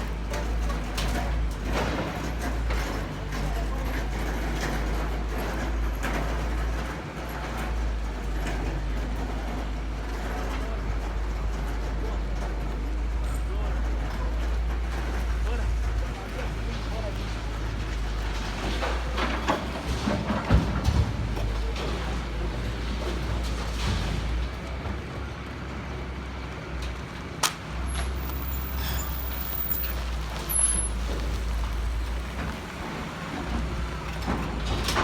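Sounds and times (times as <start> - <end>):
knocks and clanks: 0.0 - 25.3, 26.8 - 35.0
heavy vehicle engine rumbling: 0.0 - 35.0.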